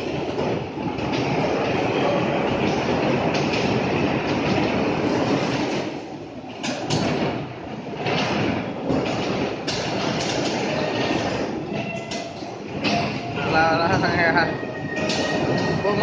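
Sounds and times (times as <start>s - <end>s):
bumper cars rolling rumble: 0.0s - 16.0s.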